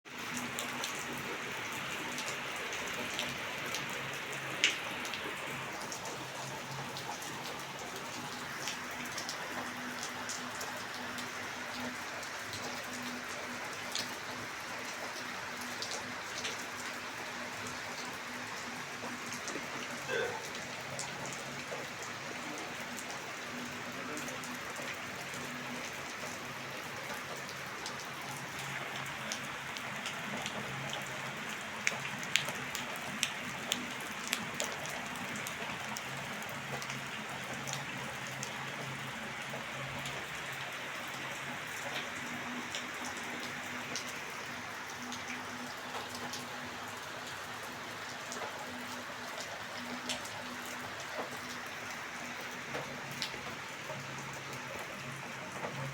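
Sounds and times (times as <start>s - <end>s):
raindrops ticking on a surface: 0.0s - 55.9s
heavy rain falling: 0.1s - 55.9s.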